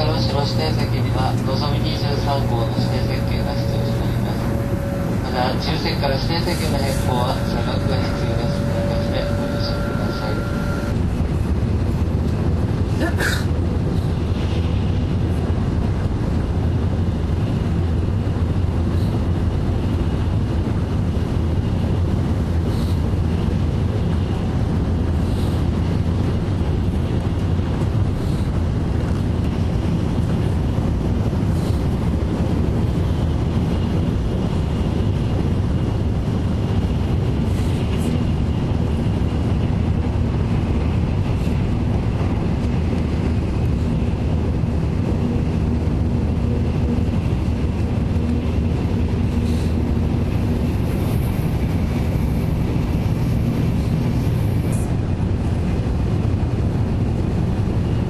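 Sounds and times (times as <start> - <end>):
train wheels and airflow rumble: 0.0 - 58.0.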